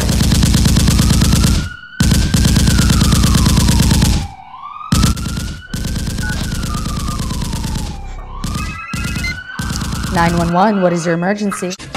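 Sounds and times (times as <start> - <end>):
police siren wailing: 0.8 - 11.8.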